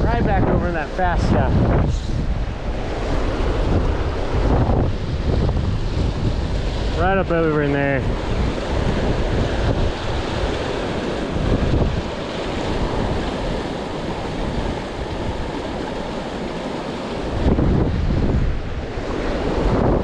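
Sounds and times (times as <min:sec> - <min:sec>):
wind buffeting microphone: 0:00.0 - 0:20.0
river water rushing over boulders: 0:02.5 - 0:20.0.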